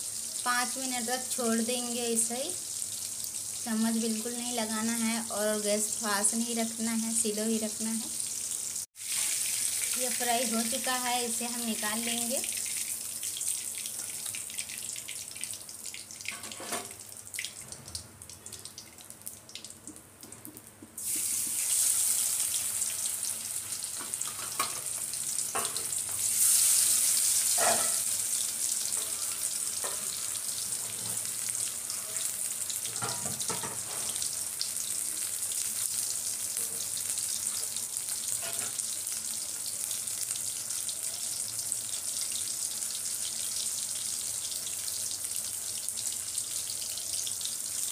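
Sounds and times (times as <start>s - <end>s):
fish sizzling in hot oil: 0.0s - 17.6s, 21.0s - 47.9s.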